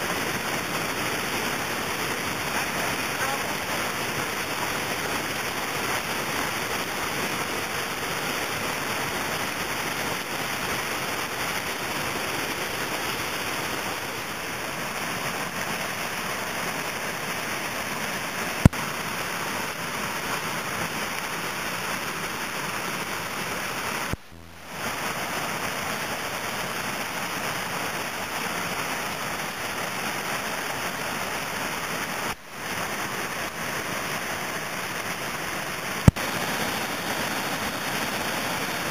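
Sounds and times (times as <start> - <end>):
rushing whitewater: 0.0 - 38.9.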